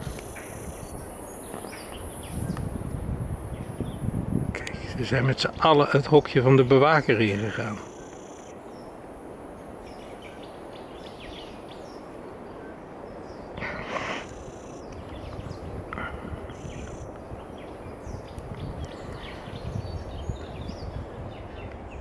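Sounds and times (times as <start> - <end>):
high chirps of birds: 0.0 - 22.0.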